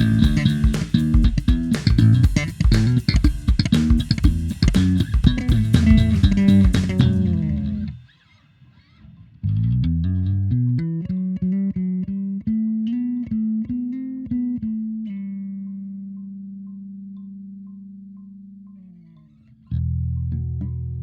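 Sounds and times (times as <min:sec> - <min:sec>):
bass guitar playing: 0:00.0 - 0:08.0, 0:09.4 - 0:21.0.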